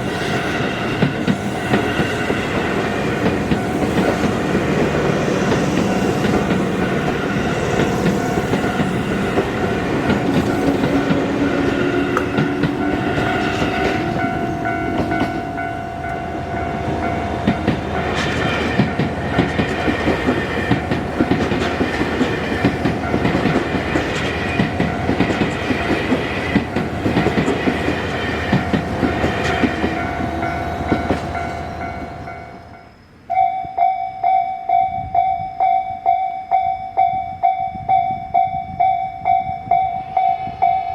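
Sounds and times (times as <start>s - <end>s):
train wheels clicking over rail joints: 0.0s - 32.8s
crossing warning bell ringing: 0.0s - 40.9s.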